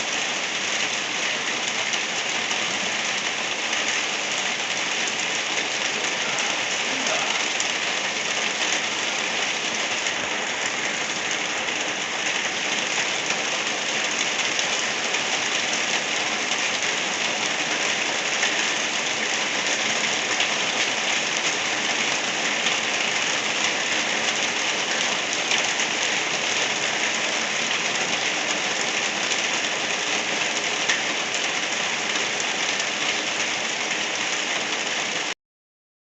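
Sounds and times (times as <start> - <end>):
light rain falling: 0.0 - 35.4.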